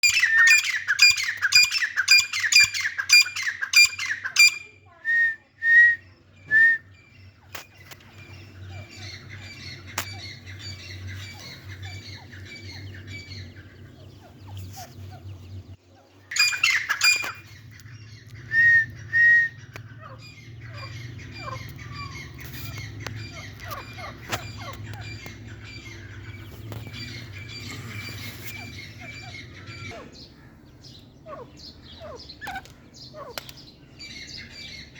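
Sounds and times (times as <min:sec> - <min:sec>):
bird chirping and chattering: 0:00.0 - 0:04.8, 0:06.1 - 0:34.9
low steady hum: 0:05.1 - 0:34.9.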